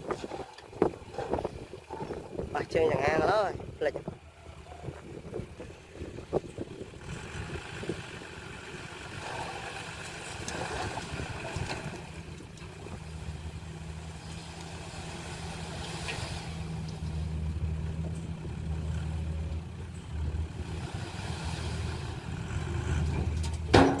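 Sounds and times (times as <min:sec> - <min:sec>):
diesel machinery engine throbbing: 0:04.1 - 0:24.0.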